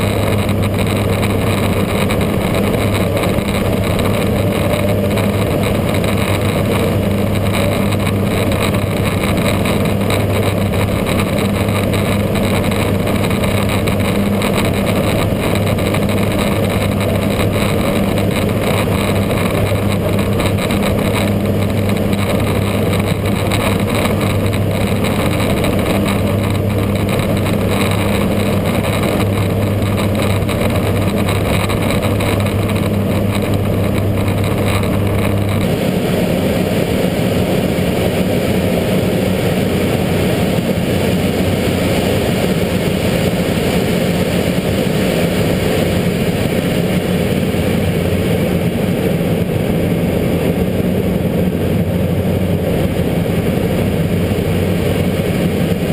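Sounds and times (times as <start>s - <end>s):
propeller aircraft engine drone: 0.0s - 55.9s.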